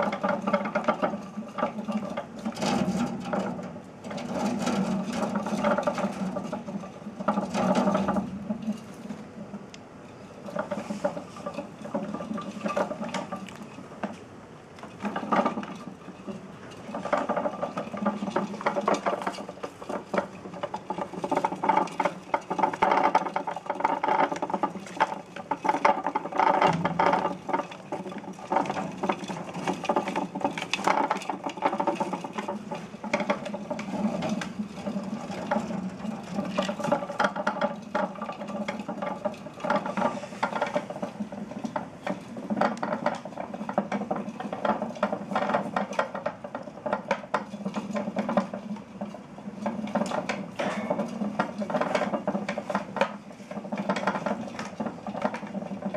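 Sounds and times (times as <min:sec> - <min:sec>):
exercise wheel clicking and rattling: 0:00.0 - 0:55.9.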